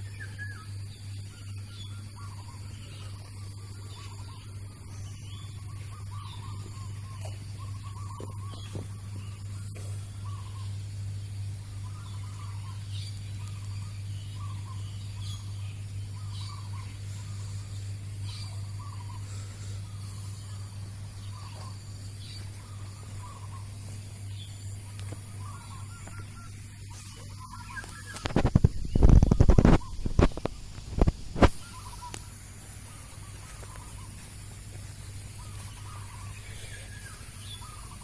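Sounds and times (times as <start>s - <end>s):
high bird chirps: 0.0s - 30.6s, 31.4s - 38.0s
steady low hum: 0.0s - 38.0s
dove cooing: 2.0s - 30.7s, 31.4s - 38.0s.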